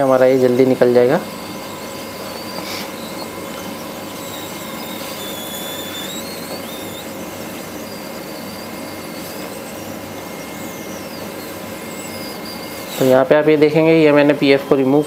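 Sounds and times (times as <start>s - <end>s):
hot air gun blowing: 0.0s - 14.2s.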